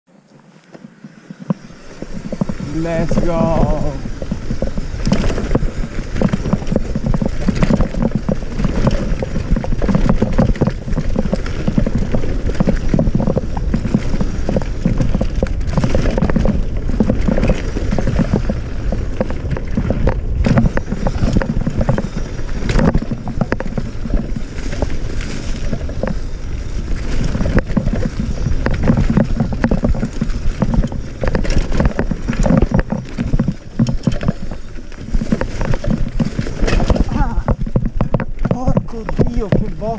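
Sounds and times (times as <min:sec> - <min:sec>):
bike rattling: 0:00.1 - 0:39.9
tyres rumbling over dirt: 0:00.1 - 0:39.9
bike knocking on roots and stones: 0:00.6 - 0:39.9.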